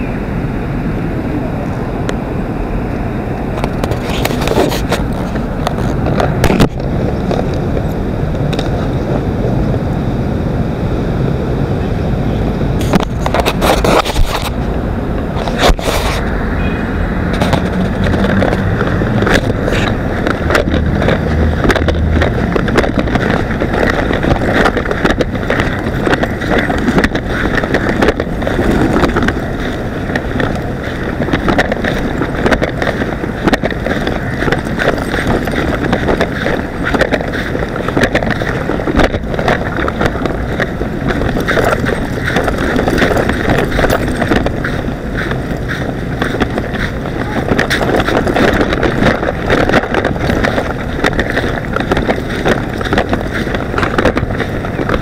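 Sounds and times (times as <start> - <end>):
wind rushing on microphone: 0.0 - 55.0
handling clicks and crackles: 3.4 - 9.1, 12.8 - 16.4, 17.3 - 55.0.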